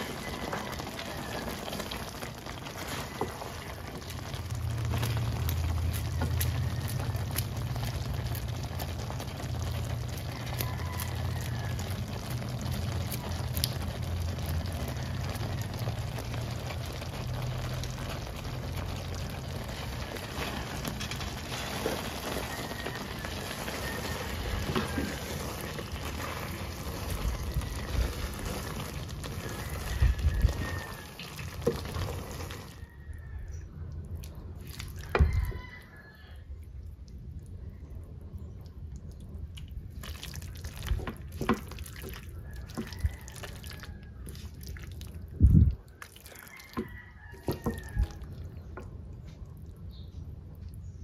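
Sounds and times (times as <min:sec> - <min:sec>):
pasta sauce bubbling in a pan: 0:00.0 - 0:51.0.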